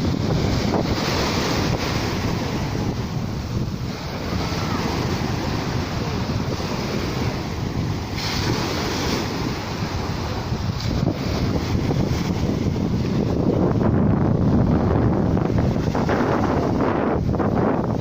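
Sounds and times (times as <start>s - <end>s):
sea waves washing ashore: 0.0s - 18.0s
wind buffeting microphone: 0.0s - 18.0s.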